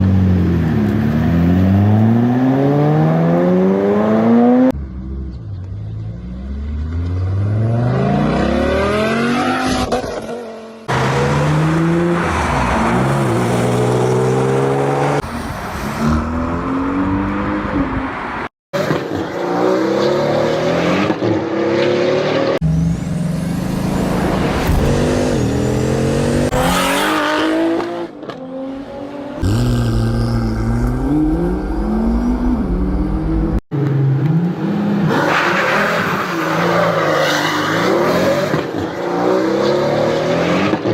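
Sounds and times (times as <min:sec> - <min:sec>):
cars accelerating hard: 0:06.6 - 0:40.9.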